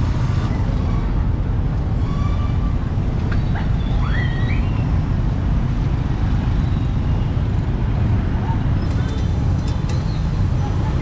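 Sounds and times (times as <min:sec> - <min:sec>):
motorbikes: 0:00.0 - 0:11.0
street traffic rumble: 0:00.0 - 0:11.0.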